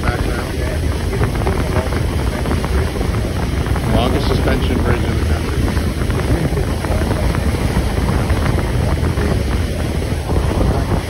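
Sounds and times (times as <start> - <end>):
ferry engine rumble: 0.0 - 11.0
wind buffeting microphone: 0.0 - 11.0.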